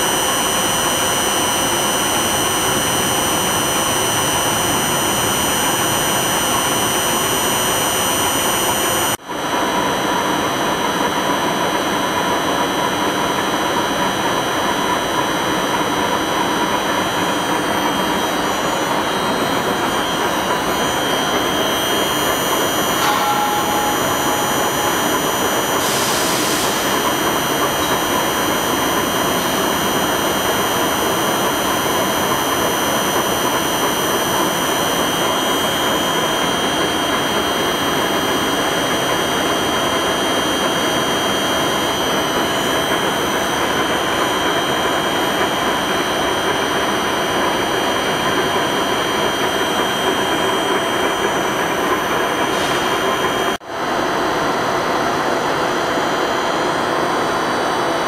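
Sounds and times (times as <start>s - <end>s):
machine spindle whirring: 0.0s - 53.6s.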